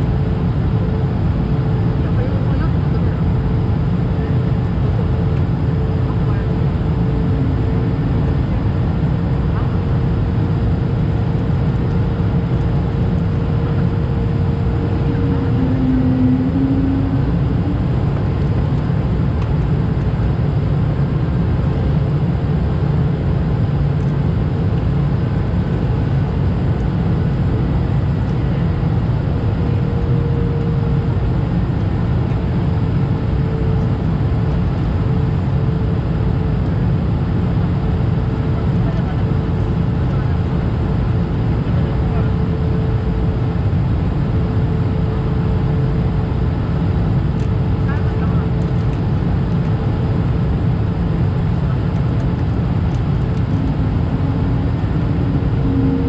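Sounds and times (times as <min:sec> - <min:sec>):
airplane cabin engine roar: 0:00.0 - 0:56.0.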